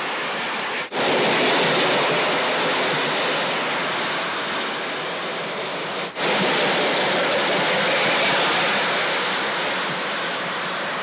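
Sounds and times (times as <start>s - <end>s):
crickets chirping: 0.0s - 11.0s
model train rolling on track: 0.0s - 11.0s.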